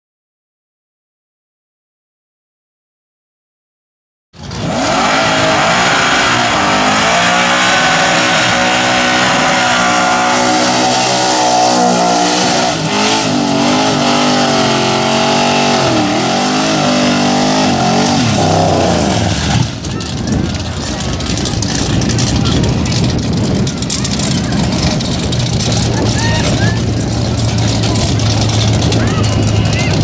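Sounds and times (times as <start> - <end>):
car engine revving hard: 4.4 - 30.0.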